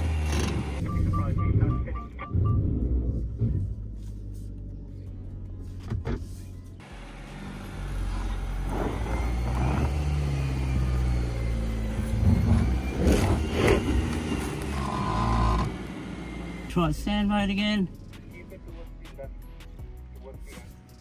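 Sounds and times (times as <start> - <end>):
vehicle drivetrain drone: 0.0 - 20.0.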